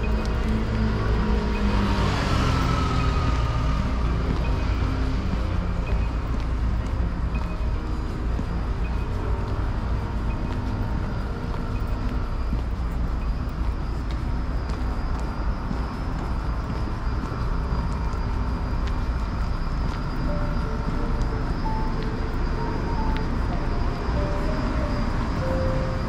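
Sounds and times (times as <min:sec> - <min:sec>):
faint general hum: 0:00.0 - 0:26.0
road traffic rumble: 0:00.0 - 0:26.0.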